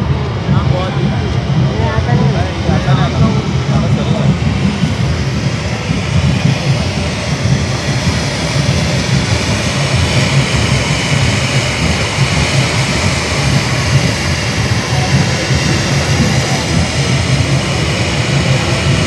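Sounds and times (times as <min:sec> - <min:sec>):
firework fountain hissing: 0:00.0 - 0:19.0
low rumble: 0:00.0 - 0:19.0.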